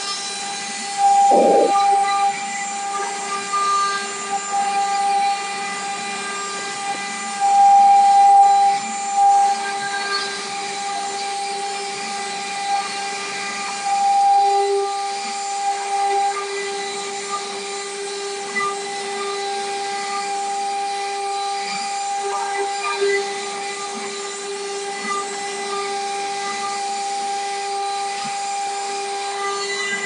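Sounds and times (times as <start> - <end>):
router spindle whining: 0.0 - 7.4, 8.0 - 30.0.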